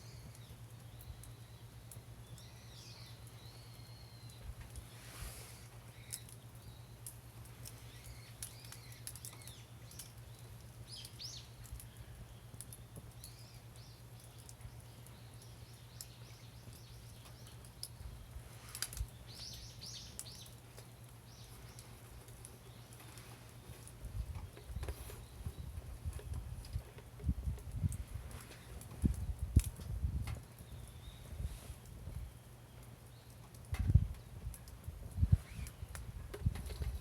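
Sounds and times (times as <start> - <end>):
small birds chirping: 0.0 - 37.0
wood fire crackling and popping: 5.7 - 37.0.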